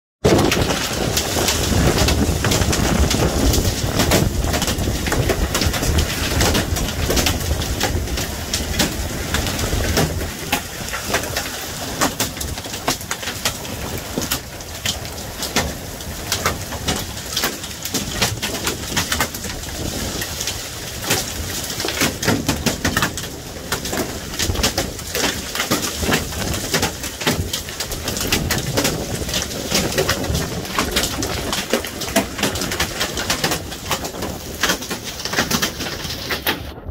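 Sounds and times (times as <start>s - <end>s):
hailstones striking the ground: 0.2s - 36.9s.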